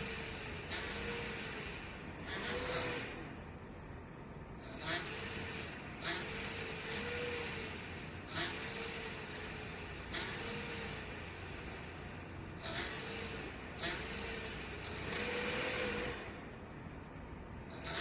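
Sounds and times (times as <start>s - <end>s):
cooling fan whirring: 0.0s - 18.0s.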